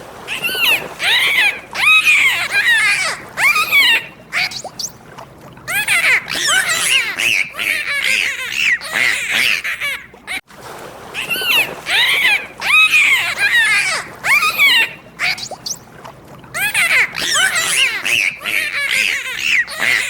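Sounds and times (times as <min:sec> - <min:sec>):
animal squealing: 0:00.3 - 0:04.9, 0:05.7 - 0:10.0, 0:11.2 - 0:15.8, 0:16.6 - 0:20.0.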